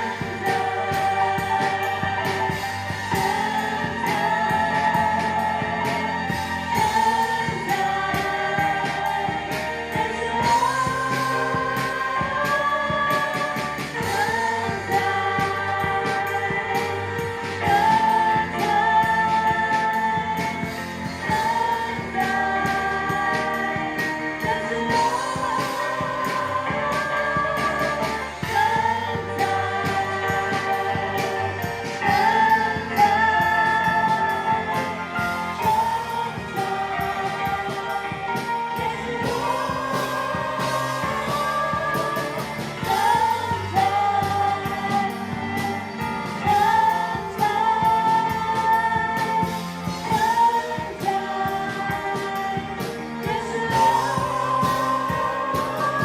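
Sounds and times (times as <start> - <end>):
people singing over a band: 0.0 - 56.0.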